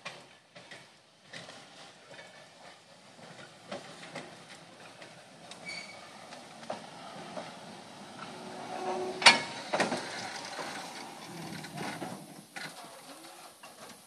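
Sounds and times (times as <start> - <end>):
trolley running gear rattling: 0.0 - 14.0.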